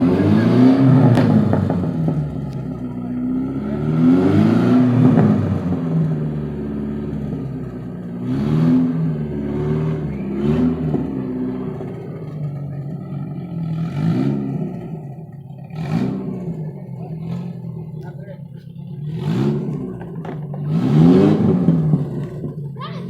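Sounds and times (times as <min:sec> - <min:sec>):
car engine revving: 0:00.0 - 0:23.0
exhaust crackling: 0:00.0 - 0:23.0.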